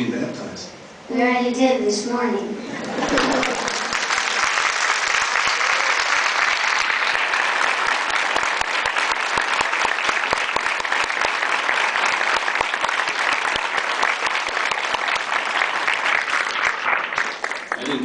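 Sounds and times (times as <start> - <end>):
large audience applauding: 2.8 - 18.0.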